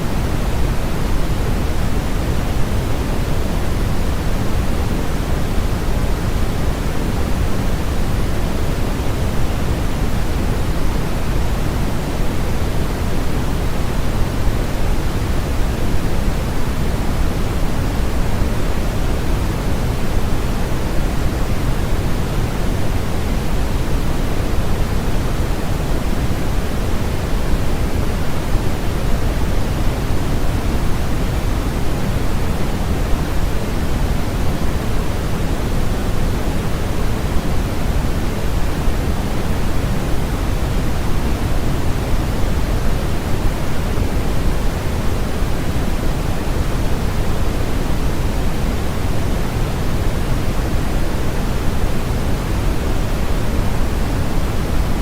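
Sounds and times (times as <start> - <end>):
steady pink noise: 0.0 - 55.0.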